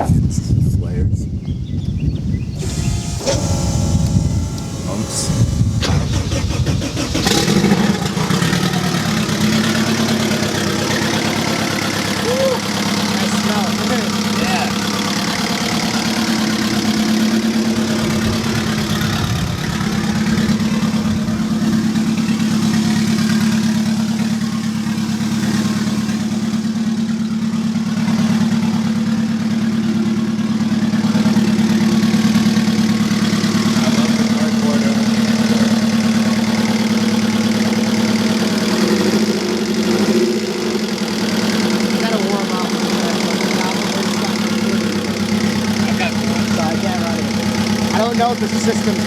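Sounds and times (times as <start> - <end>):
car engine idling: 1.4 - 49.0.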